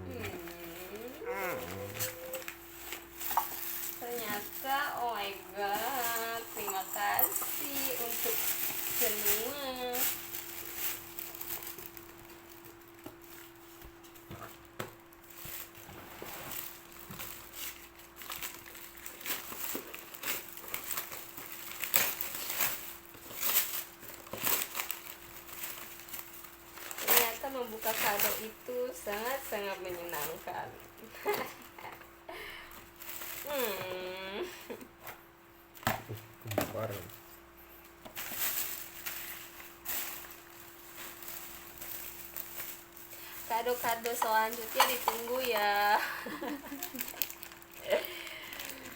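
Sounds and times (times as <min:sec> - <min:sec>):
gift wrapping crinkling: 0:00.0 - 0:34.9, 0:36.7 - 0:48.9
faint steady hum: 0:00.0 - 0:48.9.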